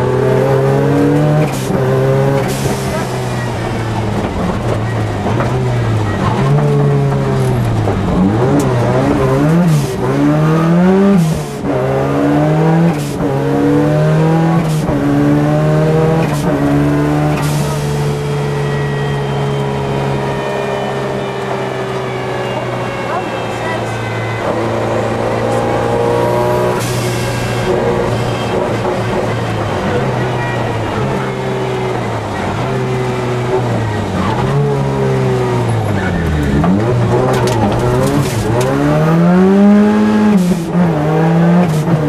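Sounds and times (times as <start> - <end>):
rally car engine revving: 0.0 - 42.0.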